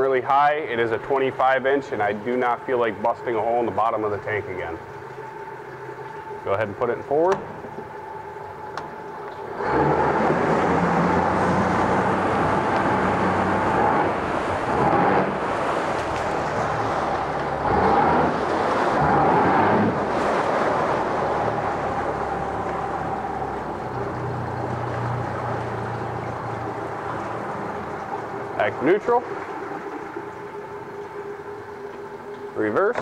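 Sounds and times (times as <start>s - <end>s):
outboard motor running: 0.0s - 33.0s
propeller churning water: 0.0s - 33.0s.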